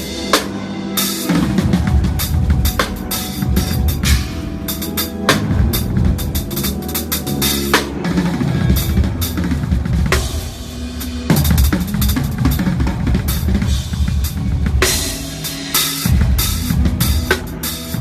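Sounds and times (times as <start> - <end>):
drum kit solo: 0.0 - 18.0.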